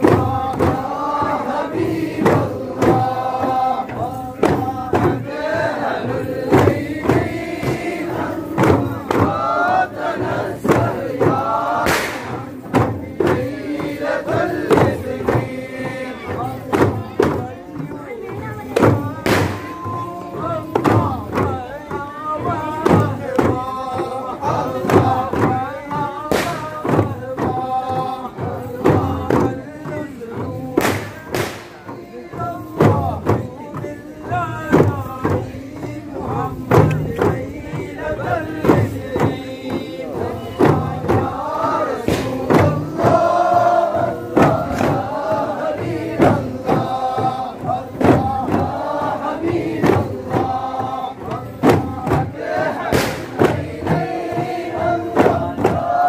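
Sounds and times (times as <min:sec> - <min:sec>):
frame drum beats: 0:00.0 - 0:56.0
men chanting together: 0:00.0 - 0:56.0.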